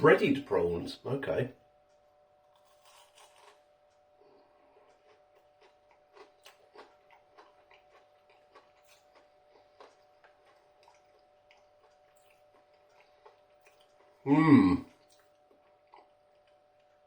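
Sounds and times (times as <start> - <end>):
crispy prawn being chewed: 2.4 - 17.0.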